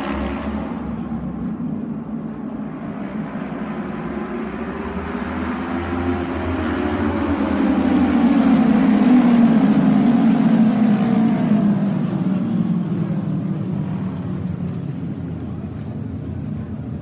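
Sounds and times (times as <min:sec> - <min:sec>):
motorcycles racing by: 0:00.0 - 0:16.2.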